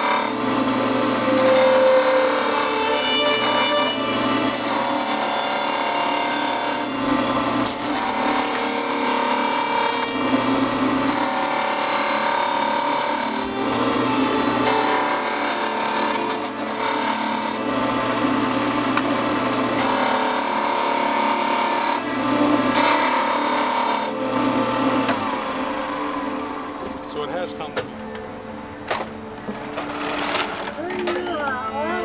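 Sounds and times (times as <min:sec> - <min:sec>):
disc sander motor hum: 0:00.0 - 0:27.6.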